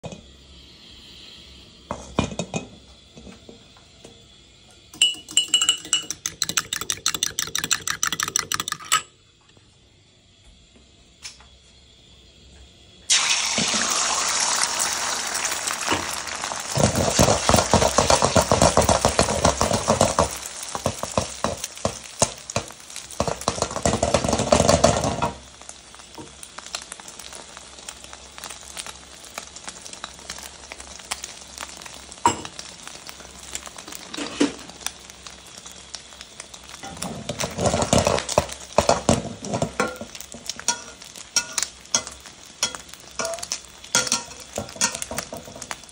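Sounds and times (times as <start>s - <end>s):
egg sizzling in hot oil: 0.0s - 9.0s, 13.1s - 45.9s.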